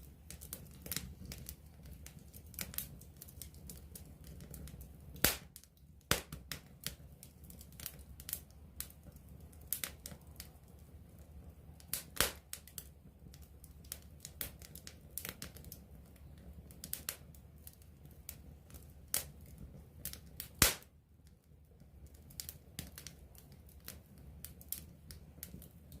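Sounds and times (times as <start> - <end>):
campfire crackling: 0.0 - 26.0
fire pops and snaps: 0.0 - 26.0
low rumble of flames: 0.0 - 26.0.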